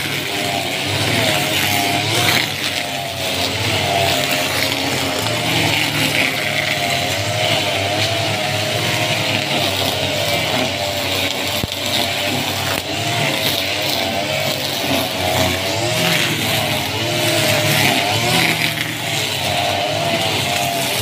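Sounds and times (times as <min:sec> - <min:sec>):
brush cutter engine running: 0:00.0 - 0:21.0
line head cutting wet grass: 0:00.0 - 0:21.0.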